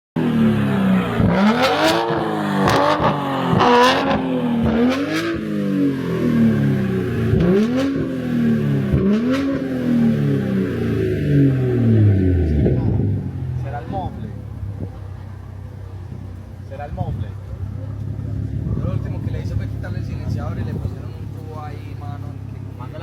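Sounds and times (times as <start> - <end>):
car engine revving: 0.2 - 23.0.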